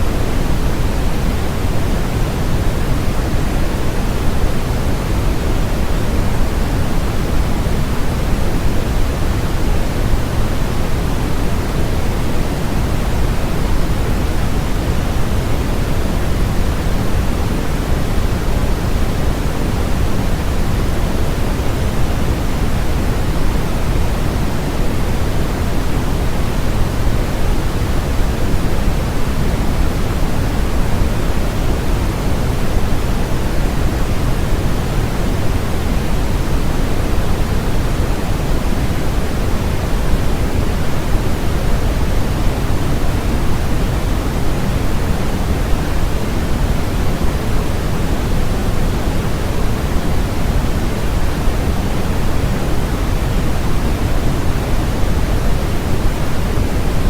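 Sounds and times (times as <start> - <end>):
deep white noise rush: 0.0 - 57.0.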